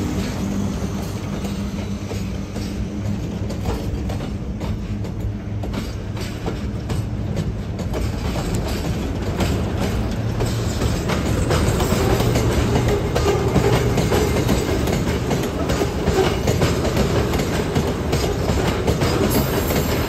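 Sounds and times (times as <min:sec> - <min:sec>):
freight wagons rumbling past: 0:00.0 - 0:20.0
wheels clicking over rail joints: 0:00.0 - 0:20.0.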